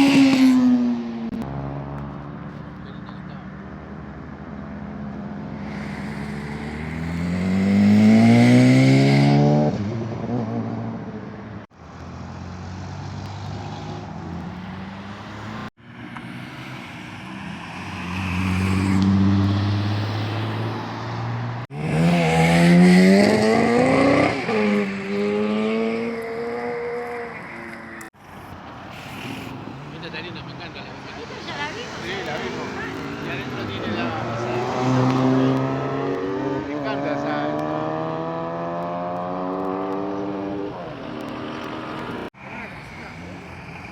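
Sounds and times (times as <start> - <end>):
vehicle engines revving: 0.0 - 43.9.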